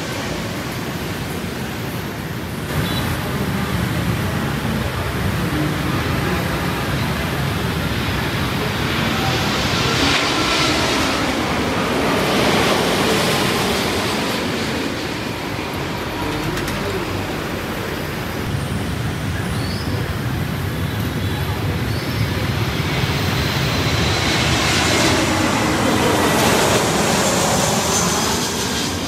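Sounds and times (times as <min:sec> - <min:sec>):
airliner jet engines passing overhead: 0:00.0 - 0:29.0.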